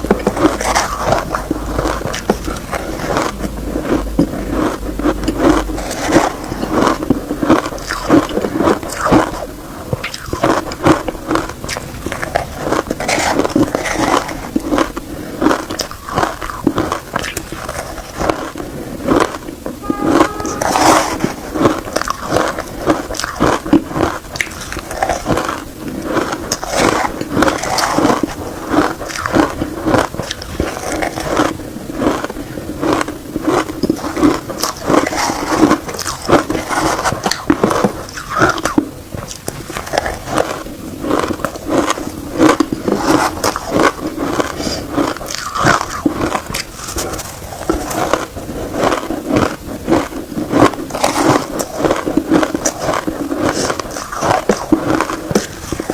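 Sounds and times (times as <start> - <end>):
shaved ice being chewed: 0.0 - 55.9.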